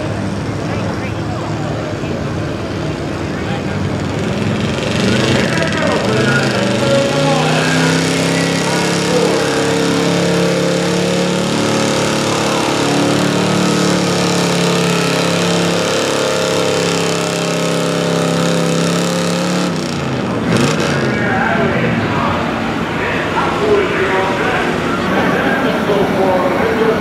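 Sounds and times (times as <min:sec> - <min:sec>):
truck engine at high revs: 0:00.0 - 0:27.0.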